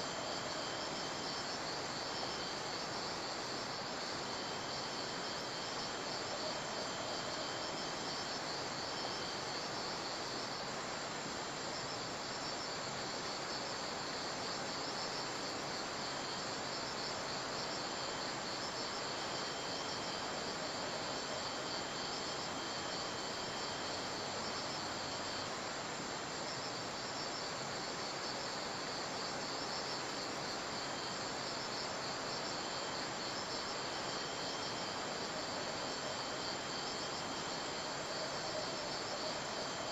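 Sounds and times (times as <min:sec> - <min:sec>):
background hiss: 0:00.0 - 0:39.9
insects chirping in trills: 0:00.0 - 0:39.9.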